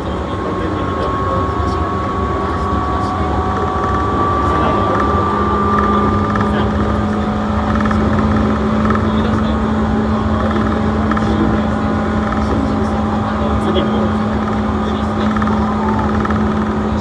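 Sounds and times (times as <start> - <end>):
train wheel-on-rail noise: 0.0 - 17.0.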